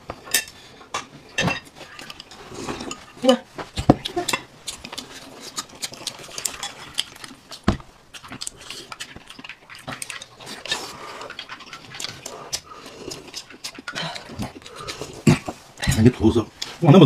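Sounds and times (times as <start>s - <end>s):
chewing: 1.7s - 16.8s.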